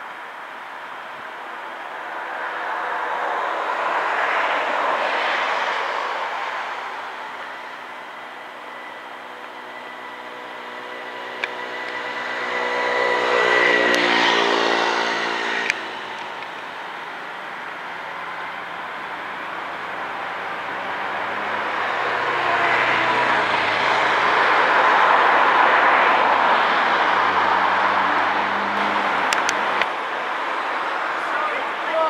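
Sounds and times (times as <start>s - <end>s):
engine hum: 0.0s - 32.0s
vehicles passing: 0.0s - 32.0s.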